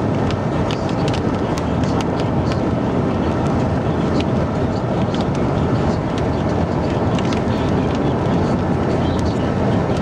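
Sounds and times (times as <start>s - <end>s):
heavy rain on a vehicle: 0.0s - 10.0s.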